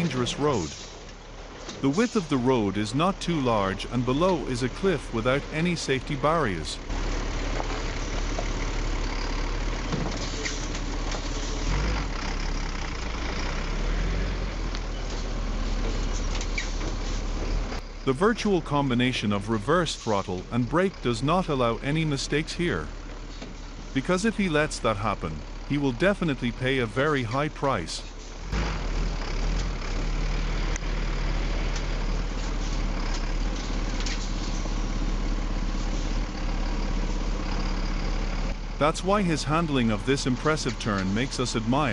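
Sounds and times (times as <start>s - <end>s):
heavy truck engine running: 0.0s - 41.9s.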